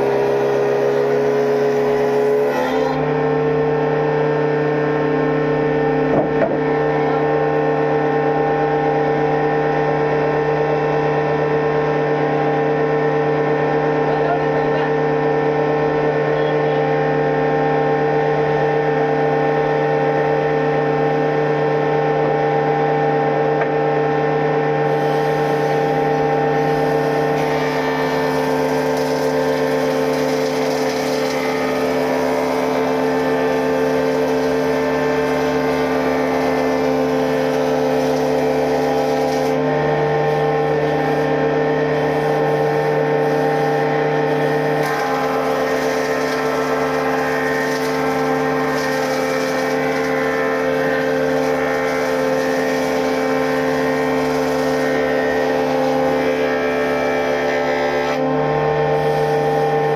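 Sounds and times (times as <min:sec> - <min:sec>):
woodworking machine humming: 0:00.0 - 0:59.9.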